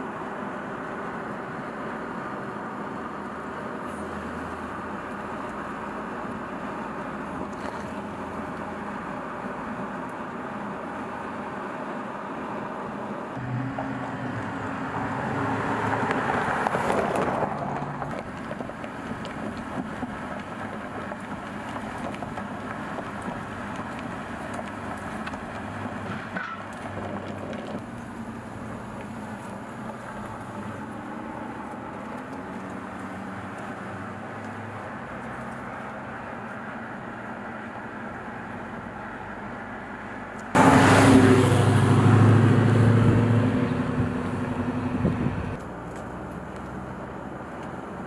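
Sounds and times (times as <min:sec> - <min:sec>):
car engine deep rumble: 0:00.0 - 0:48.0.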